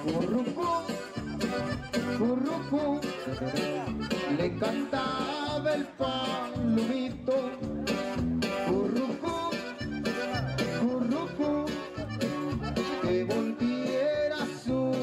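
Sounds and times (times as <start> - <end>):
accordion and guitar music: 0.0 - 15.0.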